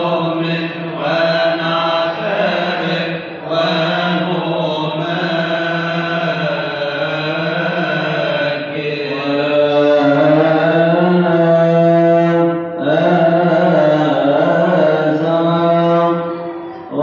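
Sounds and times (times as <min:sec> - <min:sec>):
slow liturgical chant: 0:00.0 - 0:17.0.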